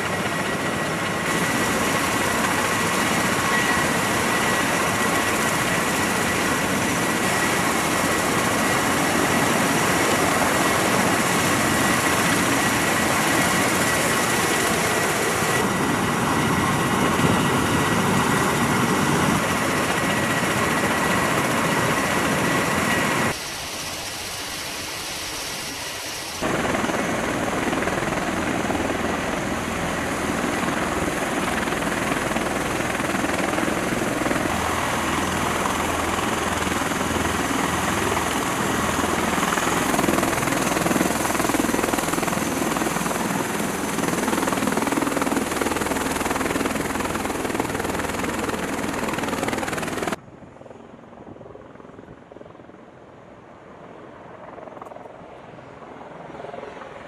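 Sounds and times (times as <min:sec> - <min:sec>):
high turbine whine: 0:00.0 - 0:52.8
helicopter rotor and turbine noise: 0:00.0 - 0:57.0.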